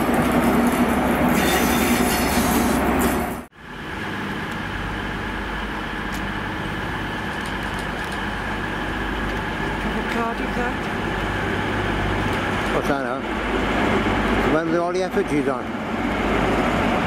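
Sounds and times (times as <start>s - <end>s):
diesel train drone approaching: 0.0s - 17.0s
diesel train engine passing: 0.0s - 17.0s.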